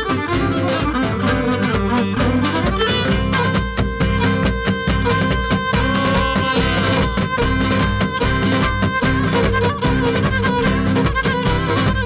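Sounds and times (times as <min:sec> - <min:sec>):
bowed string instrument tune: 0:00.0 - 0:12.0
plucked lutes: 0:00.0 - 0:12.0
steady drum beat: 0:00.0 - 0:12.0.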